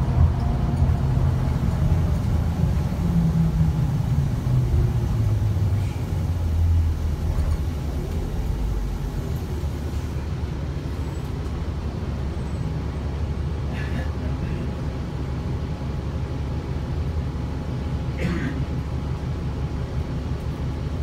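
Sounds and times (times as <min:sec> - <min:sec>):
bus engine droning: 0:00.0 - 0:21.0.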